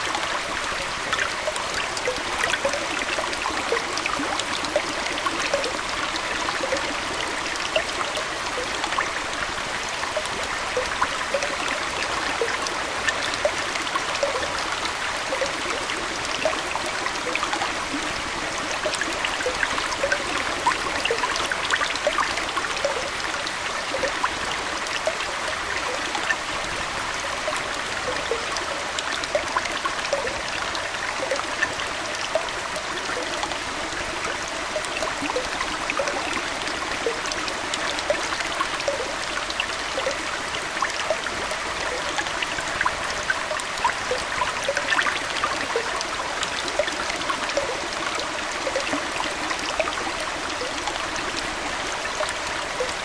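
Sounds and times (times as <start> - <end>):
aquarium water trickling and bubbling: 0.0 - 53.0.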